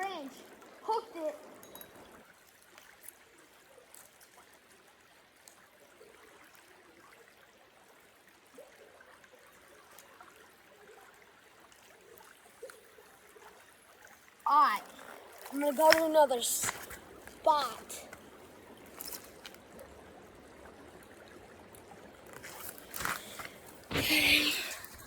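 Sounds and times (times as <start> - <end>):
faint creek water trickling: 0.0 - 25.0.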